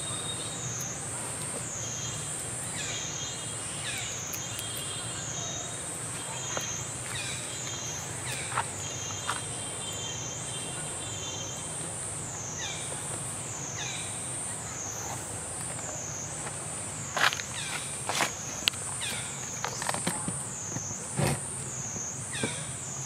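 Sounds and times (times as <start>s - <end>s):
insect drone wavering: 0.0s - 23.0s.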